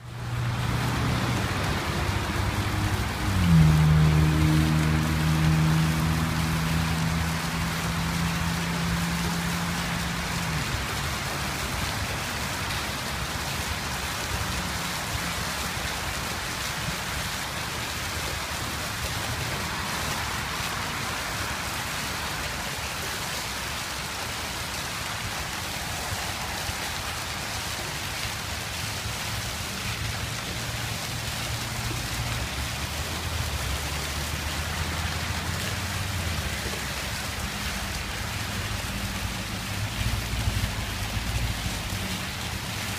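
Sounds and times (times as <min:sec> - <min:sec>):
fountain water splashing: 0:00.0 - 0:42.9.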